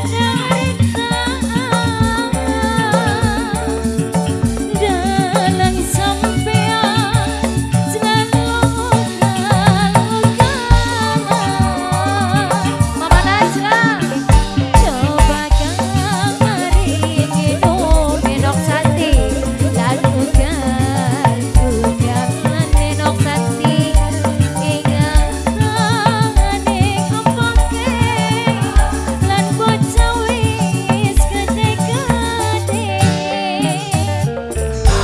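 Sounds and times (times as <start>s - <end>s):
deep drum beat: 0.0s - 33.2s, 34.0s - 35.0s
woman singing: 0.0s - 35.0s
shaking rattle: 0.1s - 32.8s.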